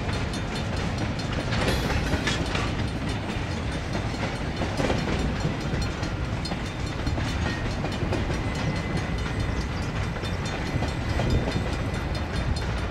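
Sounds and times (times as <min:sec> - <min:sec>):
freight train rumbling on rails: 0:00.0 - 0:12.9
wheels clicking and knocking: 0:00.0 - 0:12.9.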